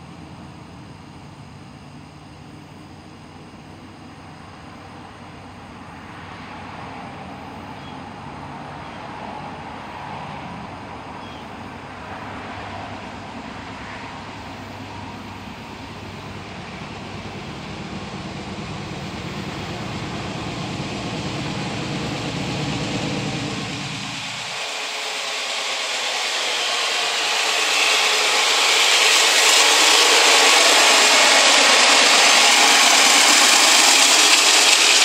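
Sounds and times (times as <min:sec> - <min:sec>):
diesel locomotive engine droning: 0:00.0 - 0:35.0.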